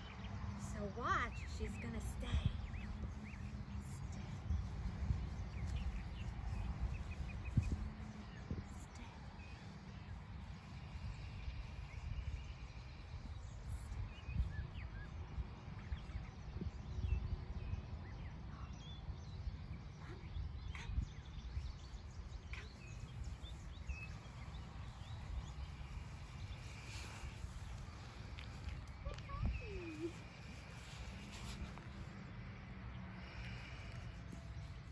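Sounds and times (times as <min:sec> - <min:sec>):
wind noise on microphone: 0:00.0 - 0:32.2.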